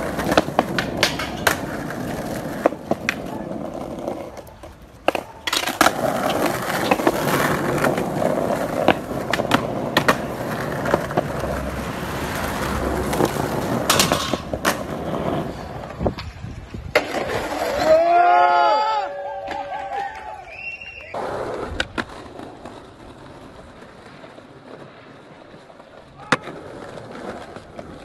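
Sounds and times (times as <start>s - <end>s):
skateboard deck clacking on ground: 0.0s - 17.9s, 21.4s - 28.0s
skateboard wheels rolling on asphalt: 0.0s - 28.0s.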